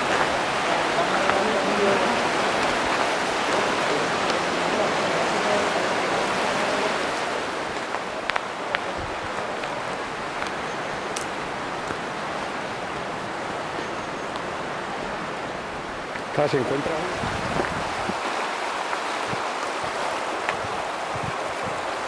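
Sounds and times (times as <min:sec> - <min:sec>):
river water flowing over rocks: 0:00.0 - 0:22.0.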